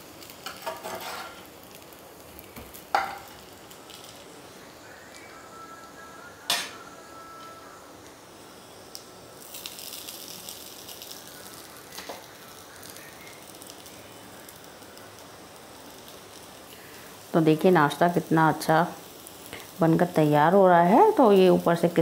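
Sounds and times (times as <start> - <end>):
crackling as food is added: 0.0 - 8.2, 8.8 - 22.0
food sizzling in oil: 0.0 - 22.0.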